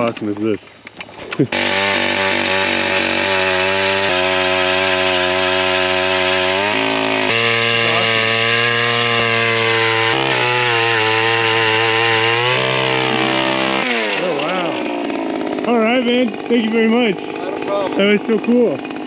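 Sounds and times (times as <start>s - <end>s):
ice auger engine drilling: 1.0s - 19.0s.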